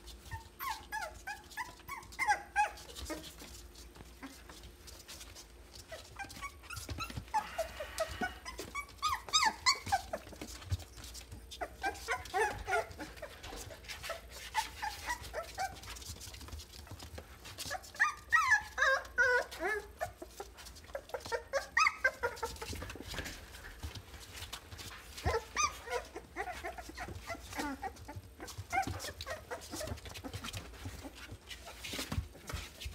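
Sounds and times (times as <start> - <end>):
puppies crying: 0.3 - 3.4, 5.8 - 16.2, 17.6 - 23.9, 24.8 - 31.9.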